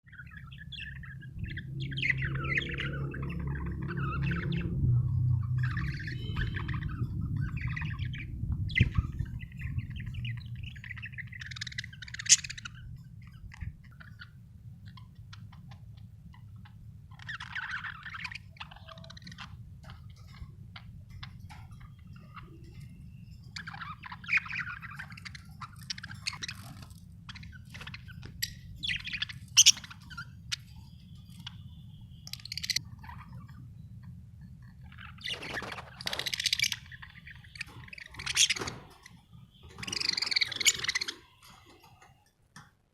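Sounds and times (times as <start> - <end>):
budgerigars chirping: 0.1 - 42.2.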